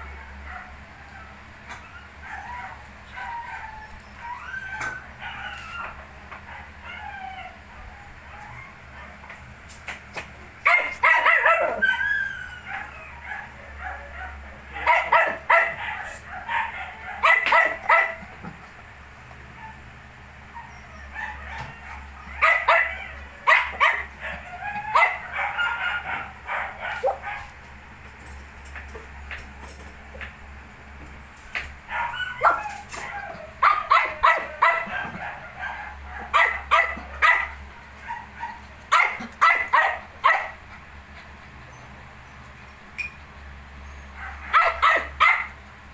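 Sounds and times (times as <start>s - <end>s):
puppies yipping and whimpering: 0.0s - 9.2s, 10.6s - 18.7s, 19.3s - 27.8s, 31.8s - 45.6s.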